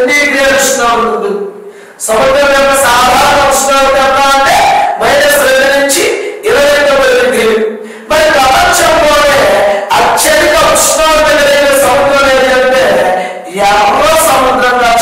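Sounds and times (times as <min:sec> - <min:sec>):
man's sing-song raised voice: 0:00.0 - 0:15.0.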